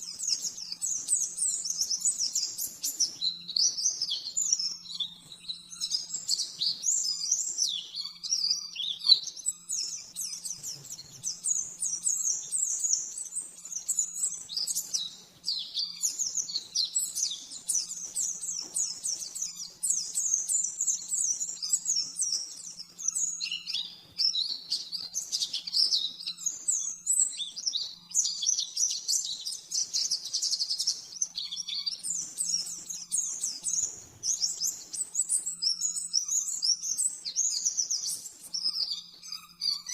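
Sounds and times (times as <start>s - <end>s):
songbird high-pitched warble: 0.0s - 39.9s.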